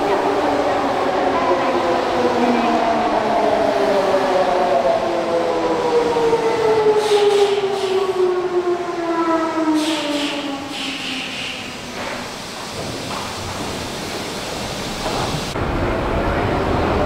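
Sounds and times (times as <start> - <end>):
train inverter and motors whining: 0.0 - 17.0.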